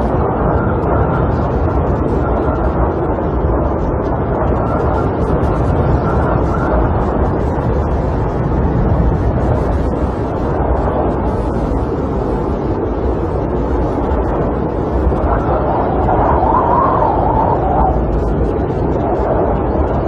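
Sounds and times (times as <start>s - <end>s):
wind buffeting a camper: 0.0s - 20.0s.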